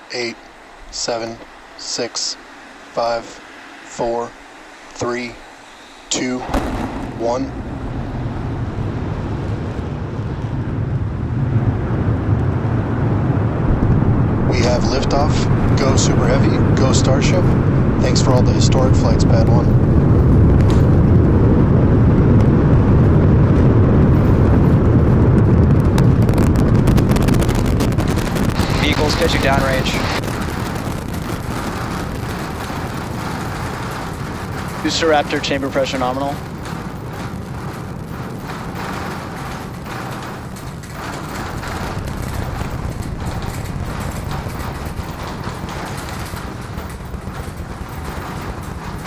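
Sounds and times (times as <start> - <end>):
rocket engines deep rumble: 0.0 - 49.0
sharp crackling: 0.0 - 49.0.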